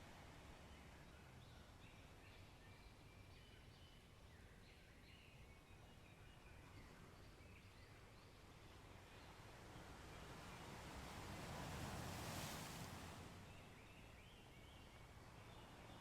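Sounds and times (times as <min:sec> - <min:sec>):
faint forest birds chirping: 0:00.0 - 0:10.8, 0:13.4 - 0:16.0.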